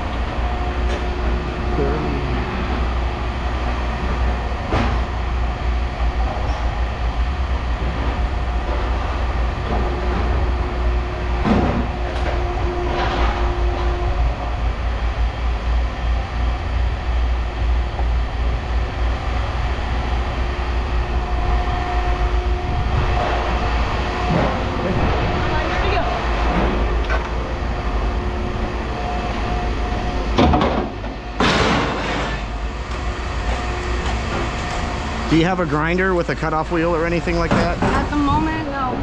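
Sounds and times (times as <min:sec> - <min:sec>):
low rumble with faint hum: 0:00.0 - 0:39.0.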